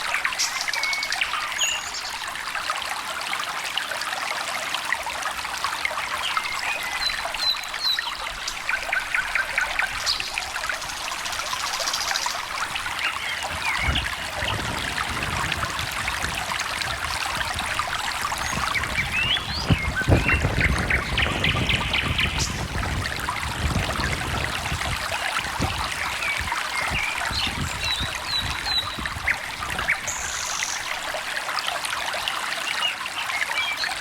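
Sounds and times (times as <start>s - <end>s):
stream trickling and splashing: 0.0s - 34.0s.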